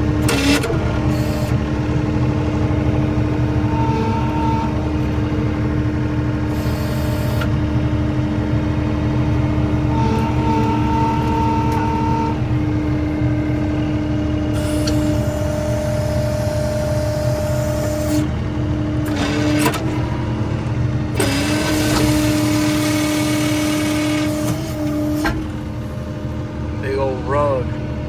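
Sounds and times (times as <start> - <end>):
hydraulic whine: 0.0 - 28.0
skid steer loader engine: 0.0 - 28.0.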